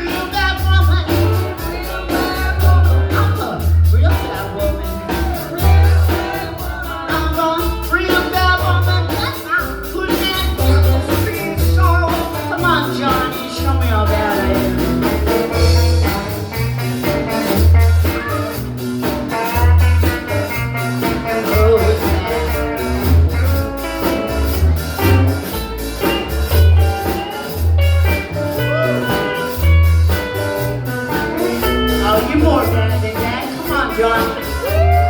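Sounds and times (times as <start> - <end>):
bass line: 0.0 - 35.0
steady drum beat: 0.0 - 35.0.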